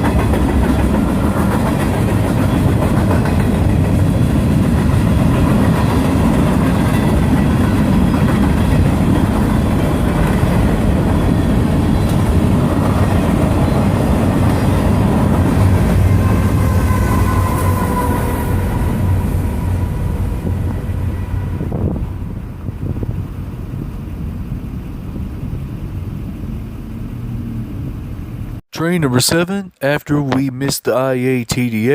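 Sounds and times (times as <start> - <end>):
freight train rumbling past: 0.0 - 28.6.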